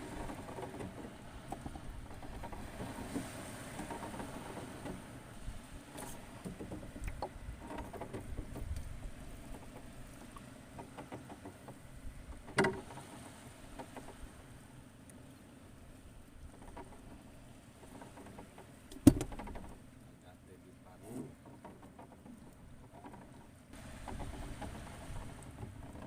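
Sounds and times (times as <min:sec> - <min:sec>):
shallow water sloshing: 0:00.0 - 0:26.0
small clicks and knocks: 0:00.1 - 0:05.0, 0:05.9 - 0:08.9, 0:09.5 - 0:14.2, 0:16.4 - 0:19.8, 0:21.2 - 0:26.0.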